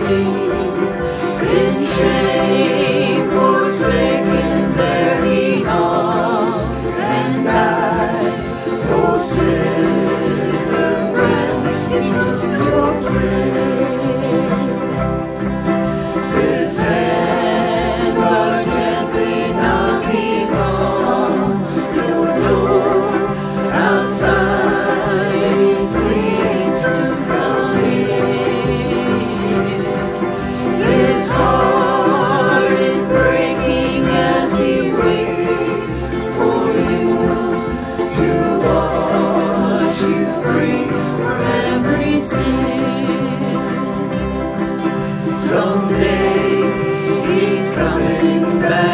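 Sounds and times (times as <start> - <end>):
acoustic guitar: 0.0 - 48.9
group singing worship song: 0.0 - 48.9.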